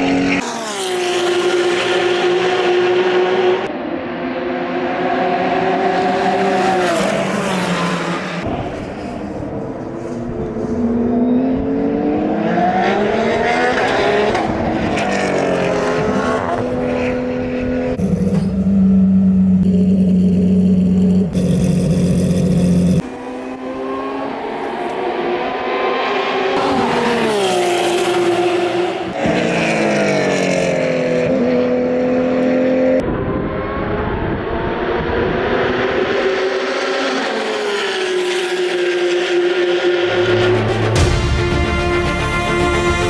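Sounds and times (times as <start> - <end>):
racing engine at high revs: 0.0 - 41.2.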